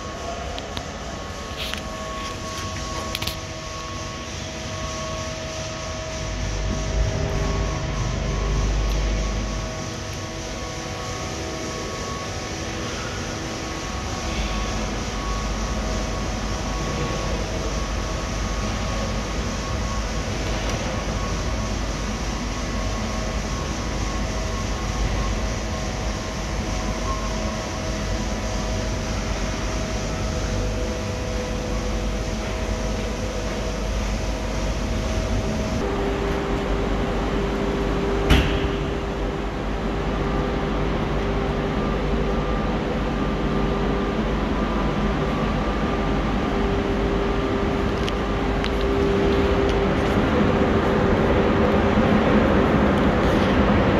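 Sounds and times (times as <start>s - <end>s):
car wash machinery running: 0.0s - 53.9s
steady hum: 0.0s - 53.9s.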